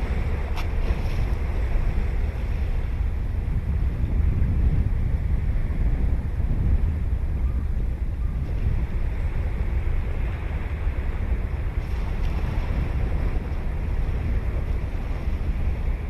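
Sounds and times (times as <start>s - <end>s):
ocean surf washing onto beach: 0.0s - 7.3s, 8.4s - 16.0s
wind buffeting microphone: 0.0s - 16.0s.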